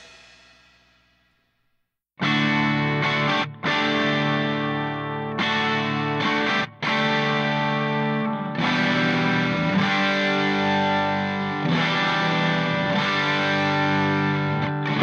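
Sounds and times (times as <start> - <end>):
instrumental rock guitar music: 2.2 - 15.0.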